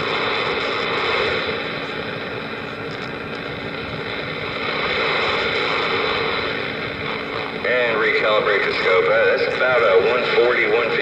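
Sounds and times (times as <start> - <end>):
faint hum: 0.0 - 11.0
radio static hiss: 0.0 - 11.0.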